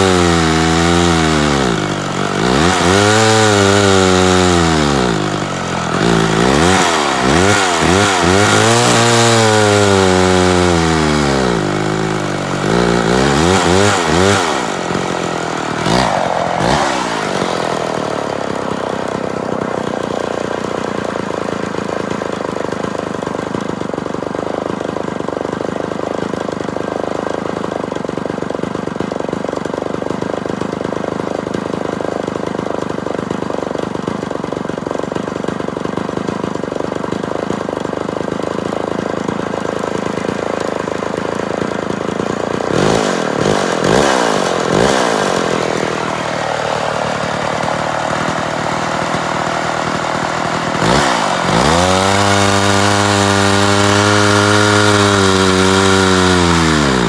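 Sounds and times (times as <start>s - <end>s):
chainsaw cutting log: 0.0s - 57.0s
chainsaw idling: 0.0s - 57.0s.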